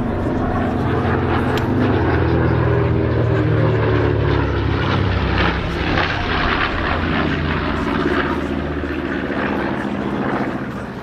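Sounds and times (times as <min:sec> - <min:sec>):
aircraft radial engines droning: 0:00.0 - 0:11.0.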